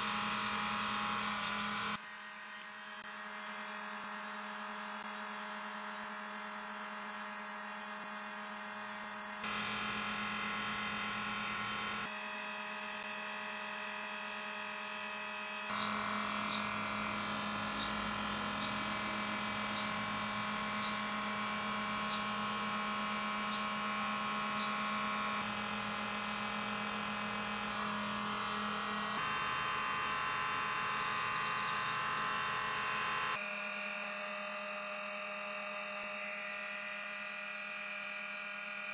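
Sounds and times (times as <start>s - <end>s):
heat pump electric hum: 0.0s - 8.3s, 9.3s - 38.9s.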